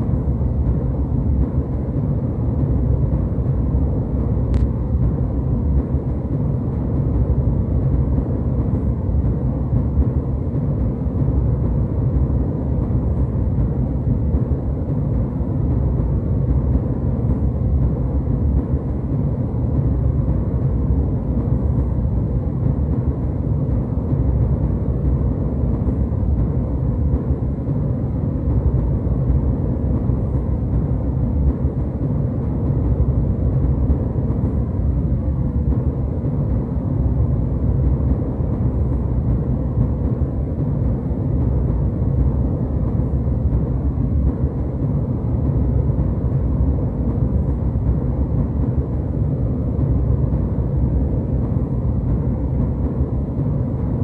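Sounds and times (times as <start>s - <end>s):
jetliner cabin rumble: 0.0s - 54.0s.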